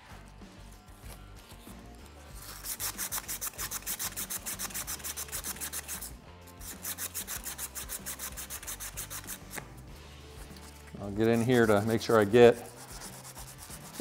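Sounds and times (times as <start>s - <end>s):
emery tape rubbing metal tube: 0.1s - 14.0s.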